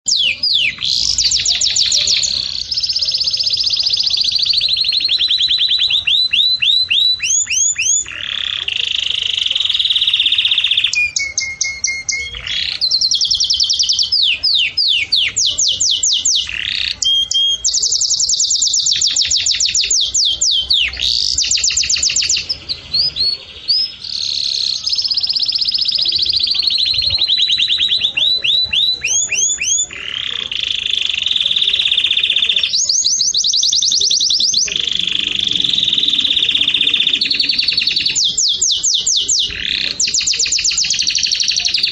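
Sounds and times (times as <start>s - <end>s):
songbird trilling: 0.0s - 41.9s.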